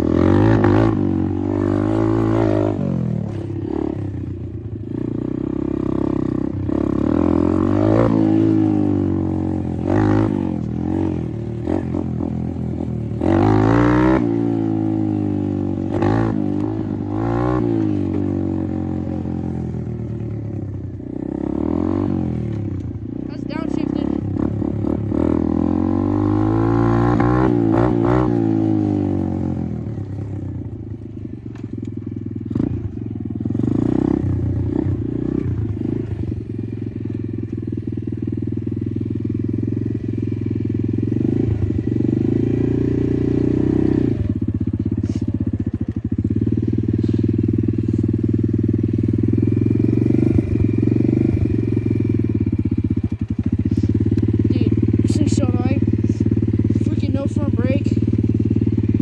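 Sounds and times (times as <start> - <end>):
dirt bike engine revving: 0.0 - 31.7, 32.3 - 59.0.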